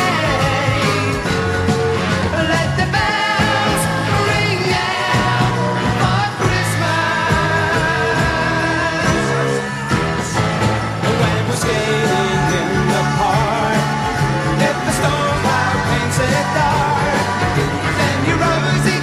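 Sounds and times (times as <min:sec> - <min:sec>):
pop song with singing: 0:00.0 - 0:19.0.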